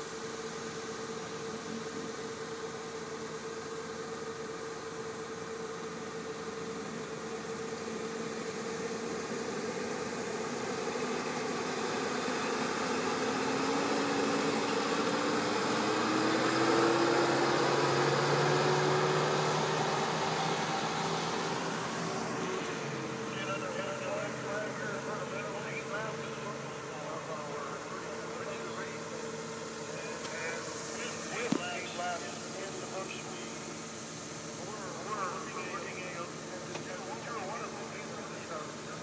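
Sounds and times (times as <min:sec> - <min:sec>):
idling engines hum: 0:00.0 - 0:39.0.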